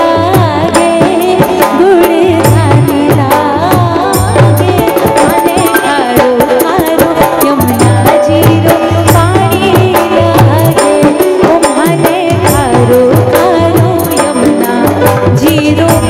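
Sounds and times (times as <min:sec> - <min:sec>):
hand drum rhythm: 0:00.0 - 0:16.0
keyboard backing: 0:00.0 - 0:16.0
woman singing into a microphone: 0:00.0 - 0:16.0.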